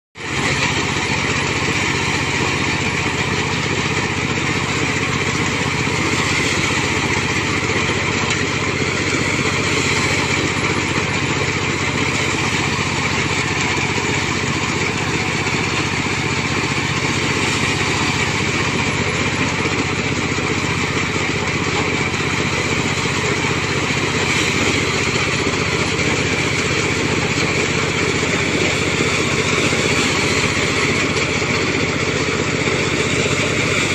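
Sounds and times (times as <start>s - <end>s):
combine harvester running: 0.2s - 33.9s.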